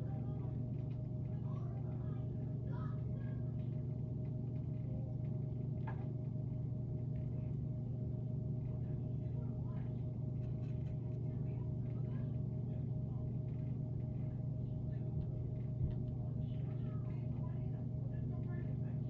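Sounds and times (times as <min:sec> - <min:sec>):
loud steady low hum: 0:00.0 - 0:19.0.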